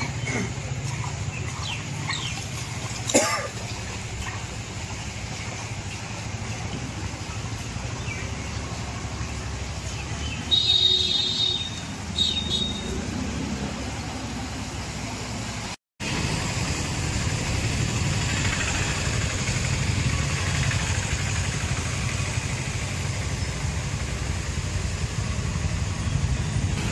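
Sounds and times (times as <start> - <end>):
motorbike engines through water: 0.0 - 26.9.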